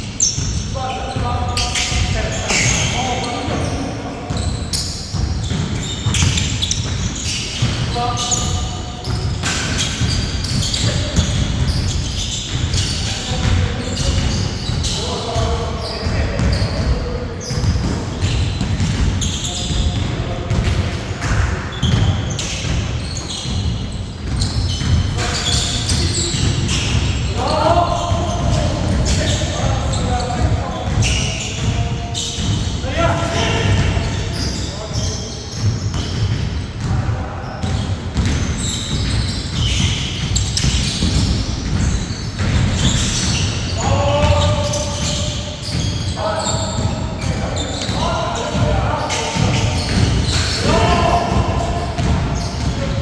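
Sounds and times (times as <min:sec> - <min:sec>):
basketball bouncing on court: 0:00.0 - 0:53.0
shoes squeaking: 0:00.0 - 0:53.0.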